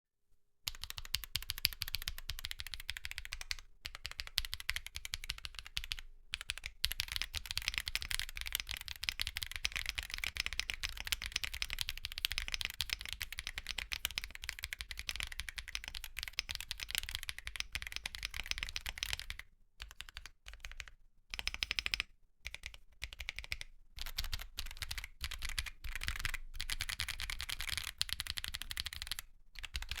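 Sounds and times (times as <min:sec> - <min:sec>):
fast typing on mechanical keyboard: 0:00.7 - 0:30.0.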